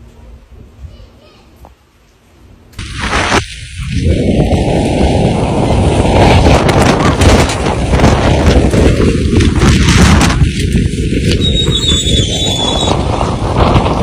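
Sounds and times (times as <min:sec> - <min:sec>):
wind blasting microphone: 0:02.8 - 0:14.0.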